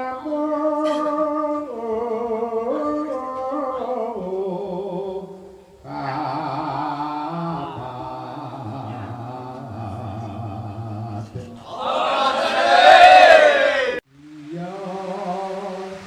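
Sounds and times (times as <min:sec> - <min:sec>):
person singing devotional chant: 0:00.0 - 0:12.9, 0:13.6 - 0:16.0.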